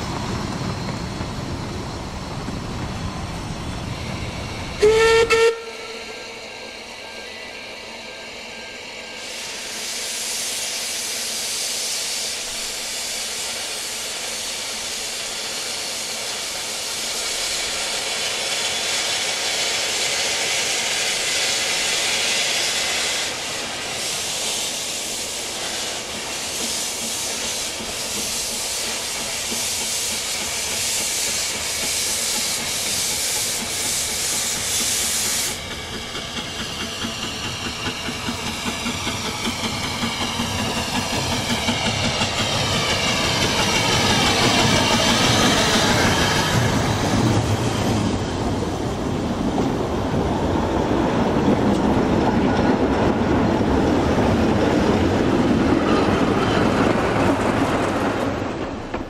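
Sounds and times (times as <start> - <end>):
steam locomotive exhaust beats: 0.0 - 59.0
steam locomotive hissing: 0.0 - 59.0.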